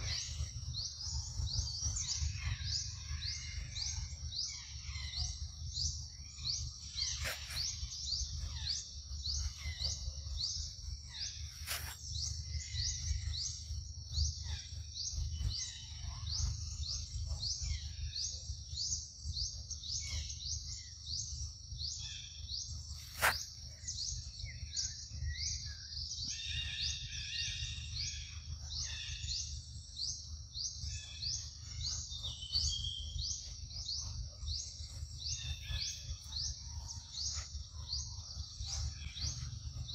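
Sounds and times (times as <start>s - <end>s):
lower bird calls: 0.0s - 18.4s, 22.0s - 39.9s.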